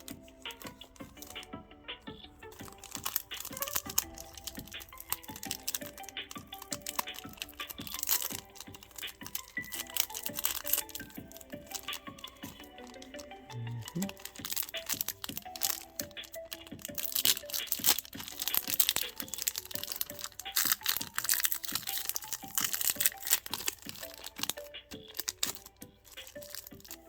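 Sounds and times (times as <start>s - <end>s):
background music: 0.0s - 27.0s
foil wrappers crinkling: 0.0s - 27.0s.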